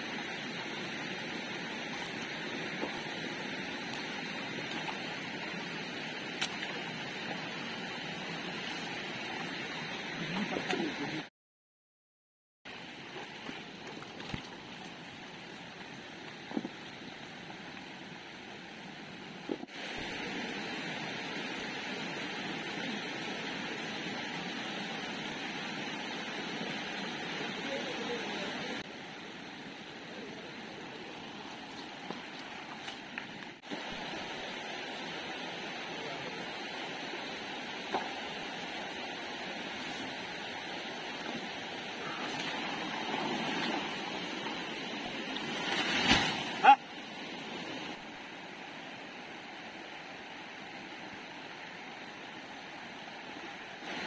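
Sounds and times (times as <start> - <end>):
stream flowing over stones: 0.0 - 11.3, 12.7 - 54.0.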